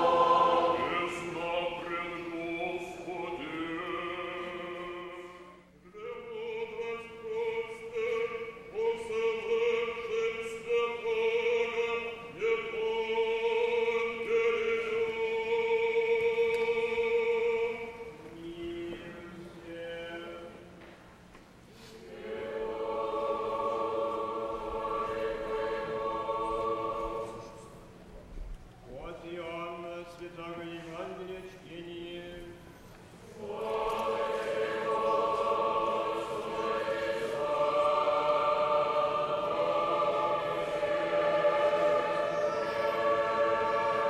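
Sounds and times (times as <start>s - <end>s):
choir chanting unaccompanied: 0.0s - 20.6s, 21.9s - 27.8s, 33.3s - 44.0s.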